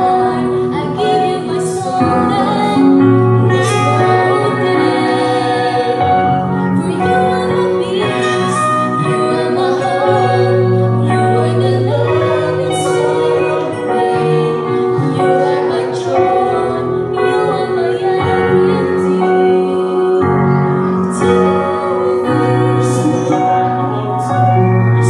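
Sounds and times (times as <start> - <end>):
instrumental accompaniment: 0.0 - 25.0
man and woman singing duet: 0.0 - 25.0.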